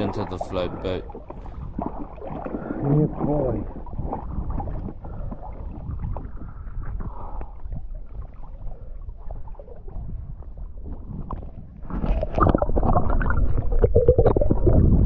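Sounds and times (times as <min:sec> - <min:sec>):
sea water sloshing and lapping: 0:00.0 - 0:15.0.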